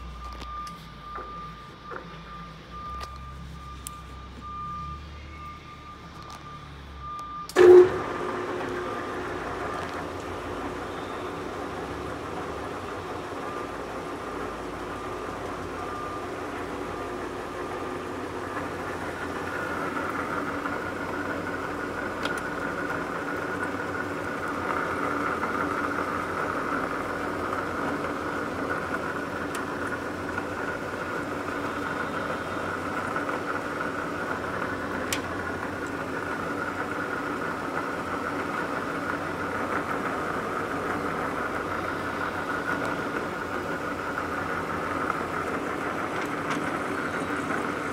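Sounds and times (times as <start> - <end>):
lathe hum and gear whine: 0.0 - 47.9.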